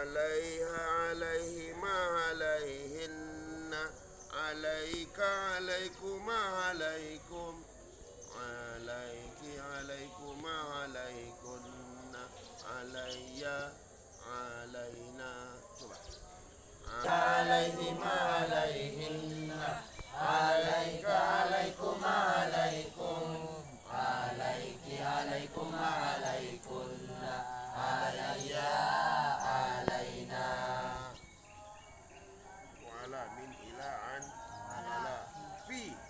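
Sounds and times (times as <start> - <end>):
students chanting in unison: 0.0 - 36.0.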